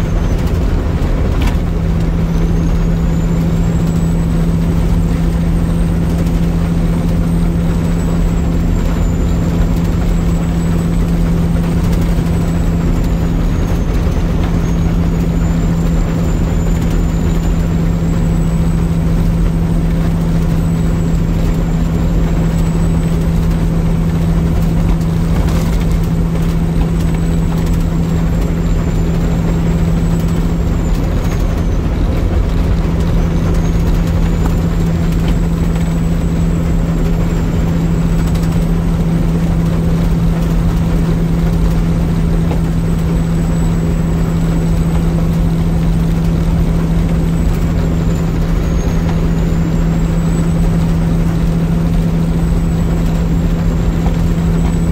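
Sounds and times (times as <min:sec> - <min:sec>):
road rumble: 0:00.0 - 0:54.9
truck engine drone: 0:00.0 - 0:54.9.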